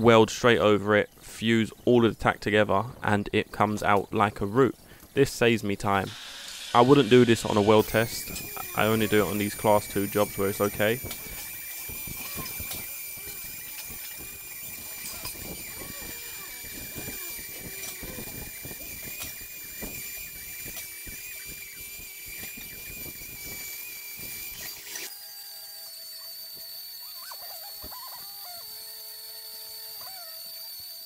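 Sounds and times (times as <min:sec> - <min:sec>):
welding arc crackling and sizzling: 0:00.1 - 0:31.0.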